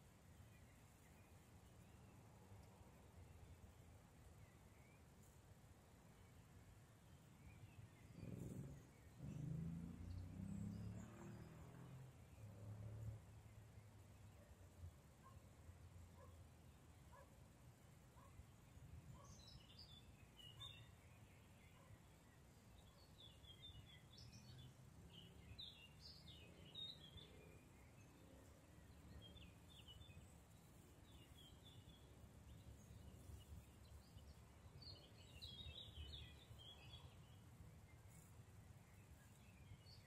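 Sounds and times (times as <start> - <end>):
faint songbirds chirping: 0.0 - 40.0.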